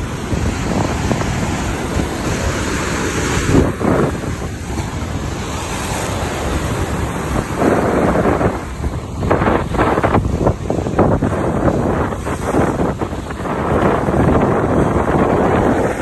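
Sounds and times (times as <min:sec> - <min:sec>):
waves crashing over rocks: 0:00.0 - 0:16.0
wind buffeting microphone: 0:00.0 - 0:16.0.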